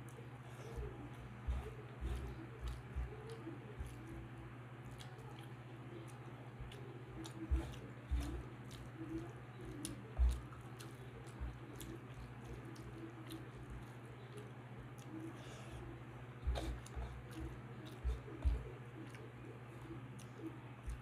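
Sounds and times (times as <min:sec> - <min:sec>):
fingers squelching rice on plate: 0:00.0 - 0:21.0
wet chewing: 0:00.0 - 0:21.0.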